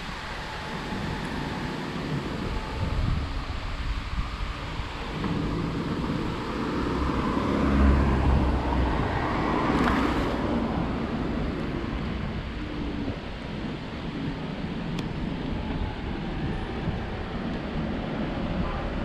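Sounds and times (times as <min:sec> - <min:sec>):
car passing: 0:00.0 - 0:19.0
wind rumble on microphone: 0:00.0 - 0:19.0.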